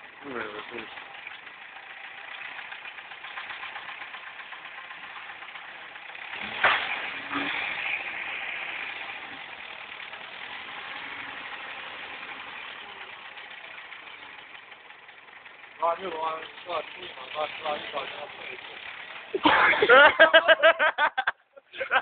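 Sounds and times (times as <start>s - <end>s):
forklift engine running: 0.0s - 20.9s.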